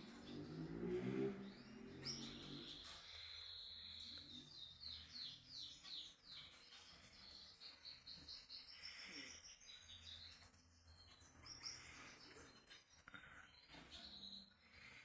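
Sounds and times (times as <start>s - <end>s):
bird chirping faintly: 0.0s - 15.0s.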